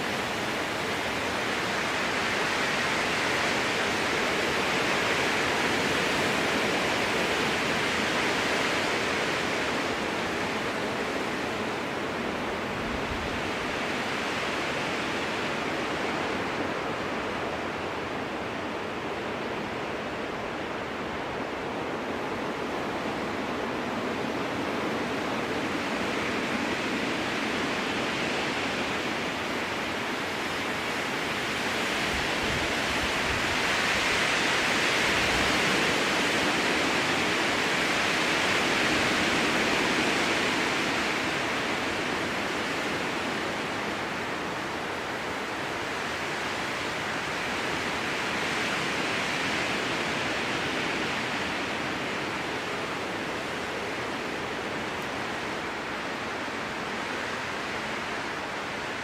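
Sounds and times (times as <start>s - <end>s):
strong wind through trees: 0.0s - 59.0s.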